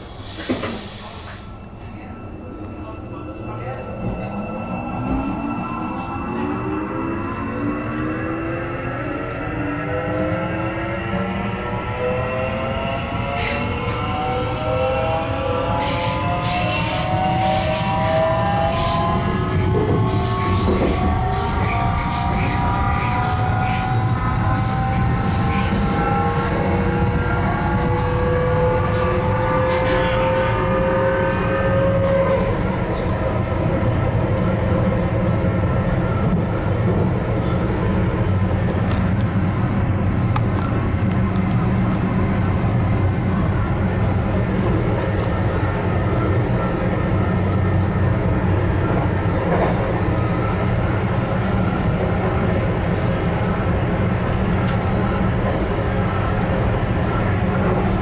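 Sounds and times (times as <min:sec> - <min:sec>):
train rumbling on rails: 0:00.0 - 0:58.0
train traction drive whining: 0:01.4 - 0:58.0.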